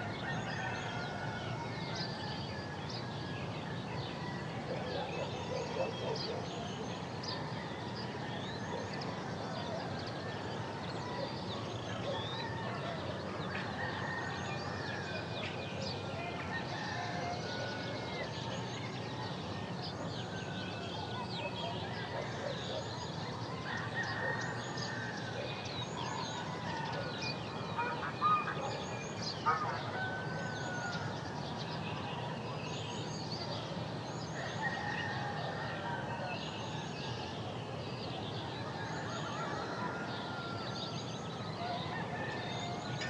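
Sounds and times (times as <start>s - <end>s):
birds calling and chirping: 0.0s - 43.0s
low background noise: 0.0s - 43.0s.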